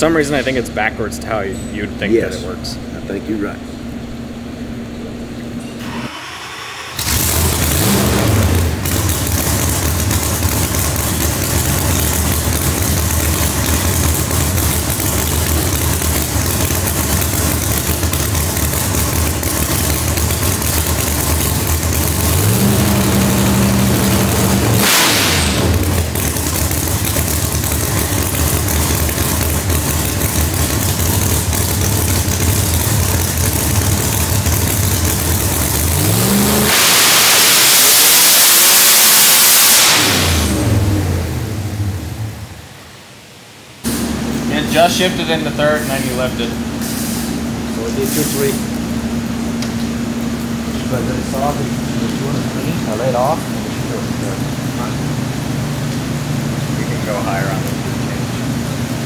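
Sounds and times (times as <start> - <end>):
engine full-throttle pull: 5.8 - 42.7, 43.9 - 59.0
drag engine idling and revving: 5.8 - 43.0, 43.8 - 59.0.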